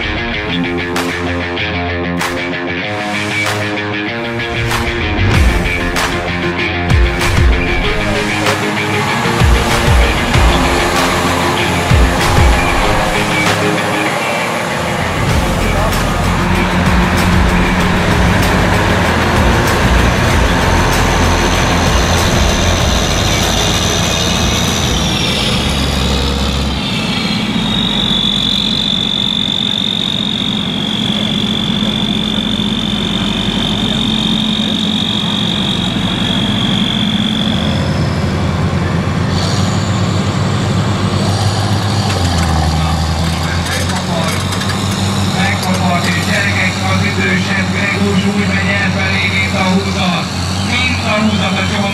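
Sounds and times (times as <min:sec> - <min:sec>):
tractor diesel engine running: 0:00.0 - 0:51.9
high-pitched whine: 0:03.0 - 0:51.9.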